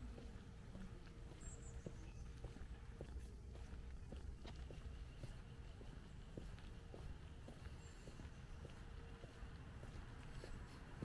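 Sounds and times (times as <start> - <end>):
footsteps on paving stones: 0.0 - 11.0.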